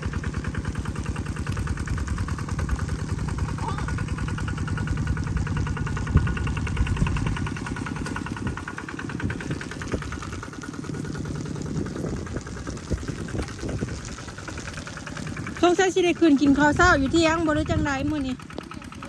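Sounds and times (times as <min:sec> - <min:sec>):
engine chugging: 0:00.0 - 0:19.0.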